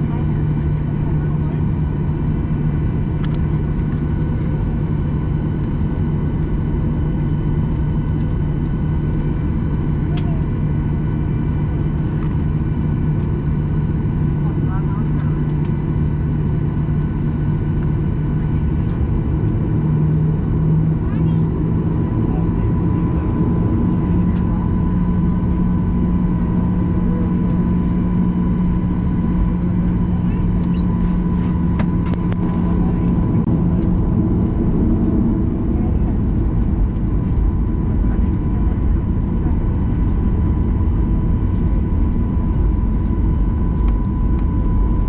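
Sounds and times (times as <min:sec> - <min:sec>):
aircraft engines rumbling: 0:00.0 - 0:45.0
constant cabin hum: 0:00.0 - 0:45.0.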